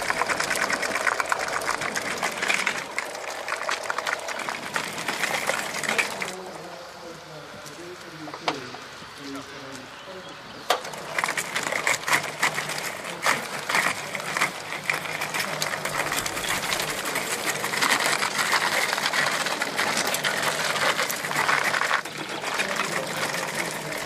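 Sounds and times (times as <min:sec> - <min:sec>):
scattered clicks: 0:00.0 - 0:09.9, 0:10.6 - 0:24.0
electric motors whirring: 0:00.0 - 0:24.0.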